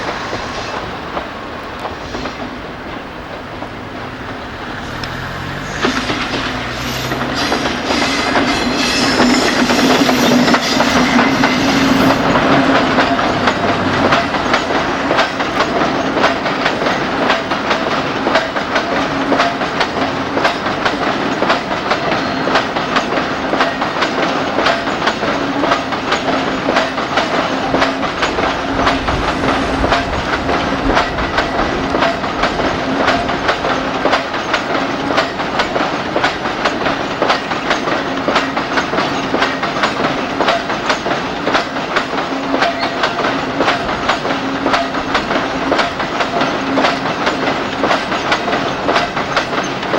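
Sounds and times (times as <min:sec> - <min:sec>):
steady train hum: 0:00.0 - 0:49.9
train wheels clicking over rail joints: 0:00.0 - 0:49.9.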